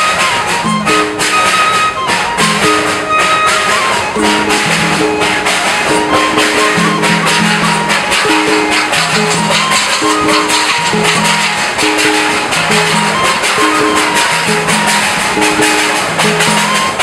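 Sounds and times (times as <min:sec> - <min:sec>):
latin-style background music: 0:00.0 - 0:17.0
shaker rhythm: 0:00.0 - 0:17.0.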